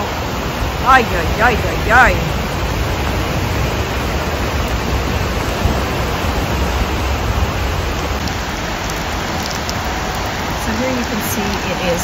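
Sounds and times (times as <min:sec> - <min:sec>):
falling rain: 0:00.0 - 0:12.0
river rushing: 0:00.0 - 0:12.0.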